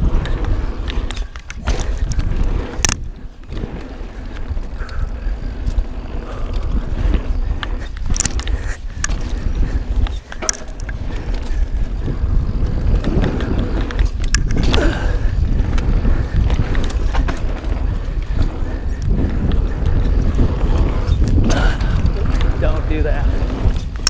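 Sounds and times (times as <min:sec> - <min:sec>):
bike rattling: 0:00.0 - 0:24.0
tyres rolling over dirt and rocks: 0:00.0 - 0:24.0
wind buffeting microphone: 0:00.0 - 0:24.0.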